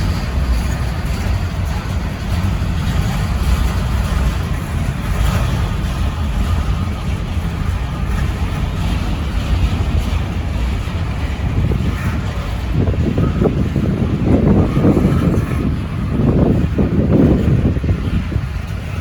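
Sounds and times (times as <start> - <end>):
freight train cars rolling past: 0.0 - 19.0
wind buffeting microphone: 0.0 - 19.0.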